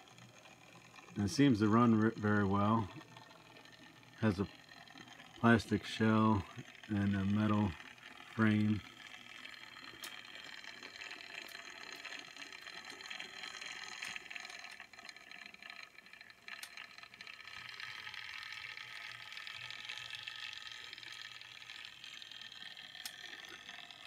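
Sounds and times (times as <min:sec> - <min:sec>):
small electric motor whirring: 0:00.0 - 0:24.0
wheels clicking on rails: 0:00.0 - 0:24.0.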